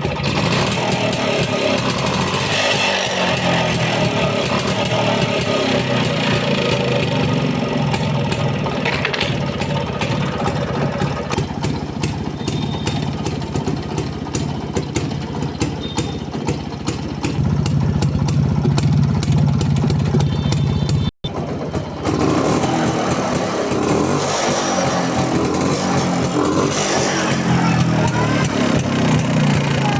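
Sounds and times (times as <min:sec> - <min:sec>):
two-stroke motorcycle engine: 0:00.0 - 0:29.9.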